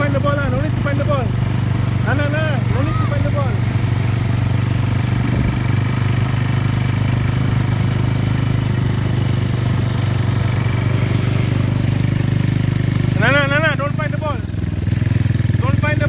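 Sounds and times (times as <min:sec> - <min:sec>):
quad bike engine running: 0:00.0 - 0:16.0.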